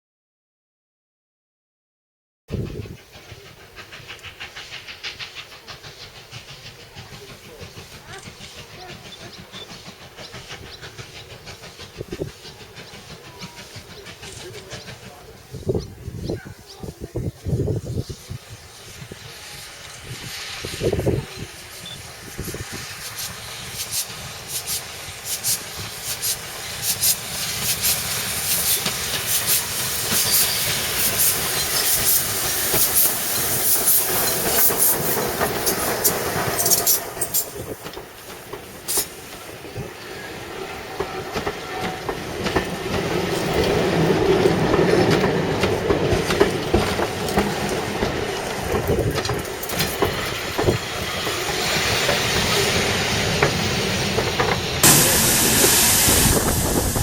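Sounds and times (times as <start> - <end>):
heavy train rumble: 2.5 - 57.0
steam hissing: 2.5 - 57.0
train wheels clattering over rail joints: 2.8 - 16.0, 18.5 - 57.0.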